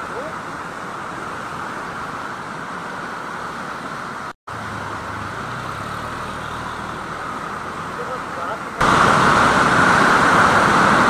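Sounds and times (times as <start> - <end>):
floodwater torrent rushing: 0.0 - 11.0.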